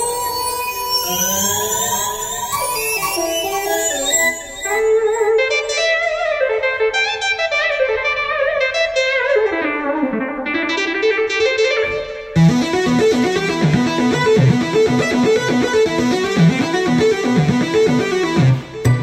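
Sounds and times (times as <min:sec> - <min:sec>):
synthesizer chords over bass: 0:00.0 - 0:19.0
synthesizer lead line: 0:00.0 - 0:19.0.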